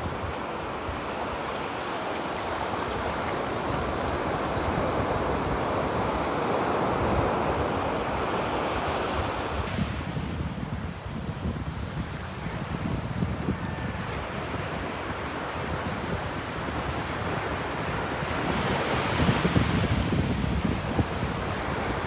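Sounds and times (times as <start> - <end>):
waves breaking on beach: 0.0 - 22.0
wind rumble on microphone: 3.0 - 22.0.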